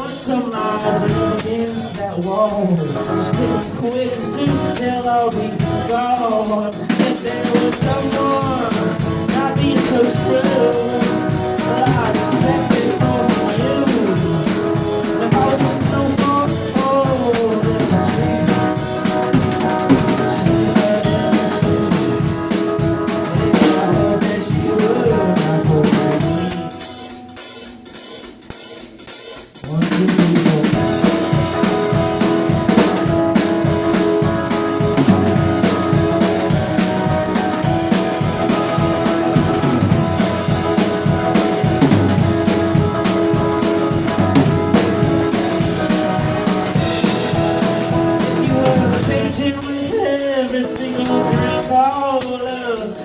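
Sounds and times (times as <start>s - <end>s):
electric guitar: 0.0s - 28.1s, 29.6s - 53.0s
drum kit playing: 0.0s - 53.0s.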